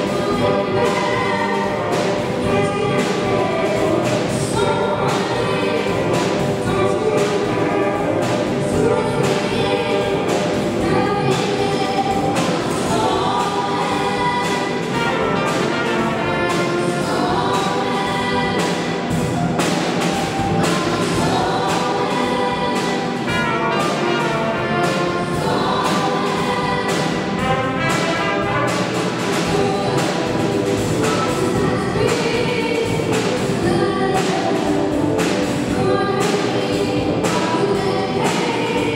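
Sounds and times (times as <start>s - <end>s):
live band with trumpet: 0.0s - 38.9s
youth choir singing: 0.0s - 38.9s.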